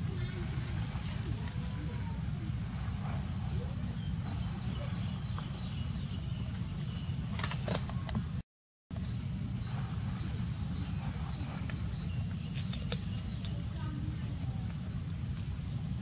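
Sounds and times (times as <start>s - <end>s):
low steady rumble: 0.0s - 8.4s, 9.0s - 16.0s
insects droning: 0.0s - 16.0s.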